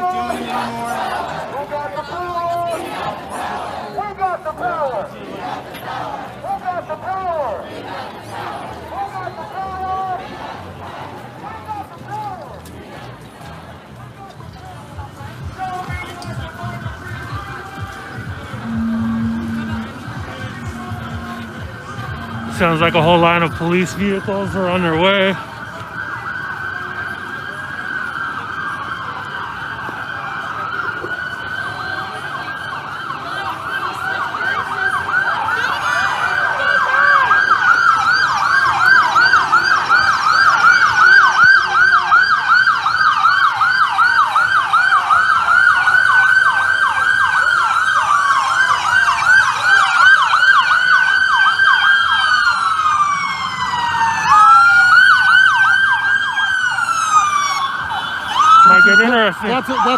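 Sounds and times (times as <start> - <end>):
wailing sirens: 0.0 - 59.9
yelping police sirens: 0.0 - 59.9.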